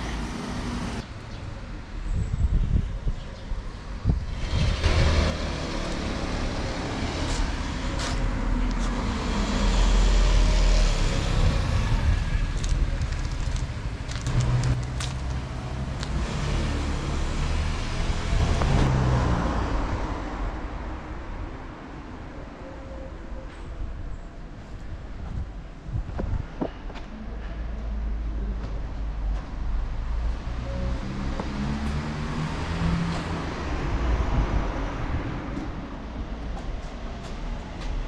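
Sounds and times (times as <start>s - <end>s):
cars passing by: 0.0s - 38.0s.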